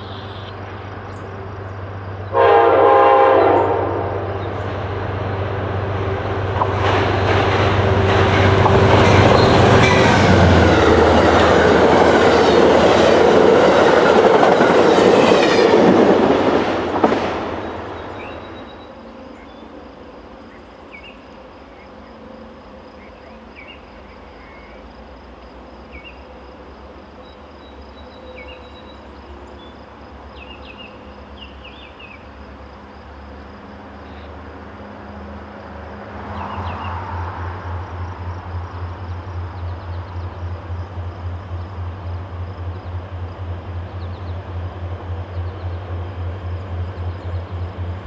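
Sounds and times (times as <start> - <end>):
diesel locomotive engines: 0.0 - 48.0
insects buzzing: 0.0 - 48.0.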